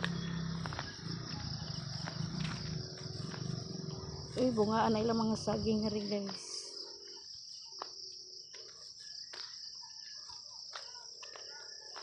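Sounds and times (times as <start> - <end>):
insect chorus drone: 0.0 - 12.0.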